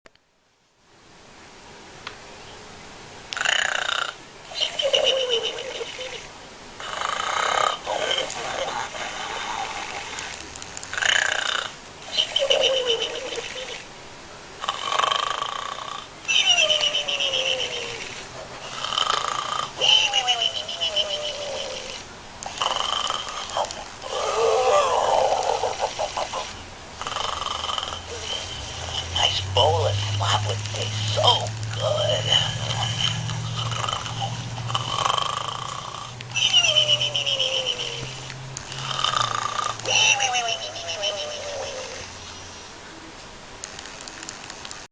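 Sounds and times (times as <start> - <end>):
pig snoring: 3.4 - 6.2, 6.8 - 13.9, 14.6 - 42.3.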